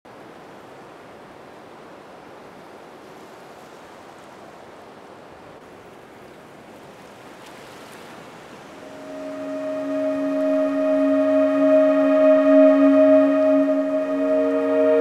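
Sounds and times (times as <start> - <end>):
steady background hiss: 0.1 - 15.0.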